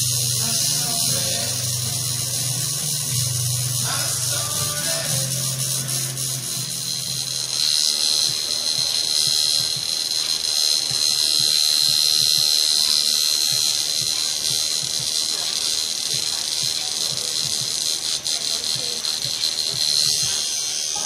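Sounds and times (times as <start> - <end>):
tattoo machine buzzing: 0.0 - 21.0.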